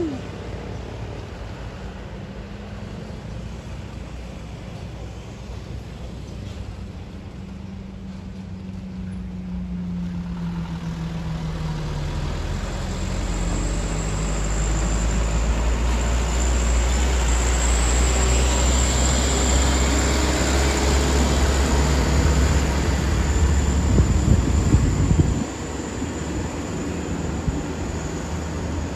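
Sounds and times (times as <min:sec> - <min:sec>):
truck diesel engine labouring: 0:00.0 - 0:28.9.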